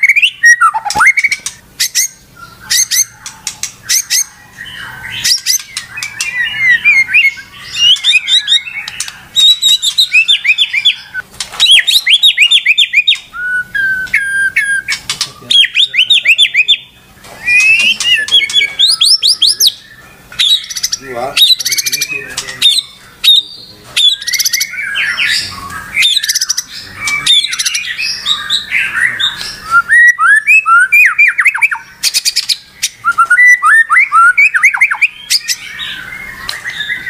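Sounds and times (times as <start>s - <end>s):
bird singing: 0.0s - 37.0s.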